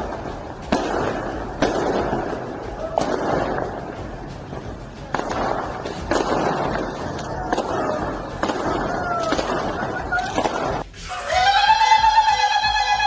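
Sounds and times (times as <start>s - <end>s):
fireworks bangs: 0.0s - 11.1s.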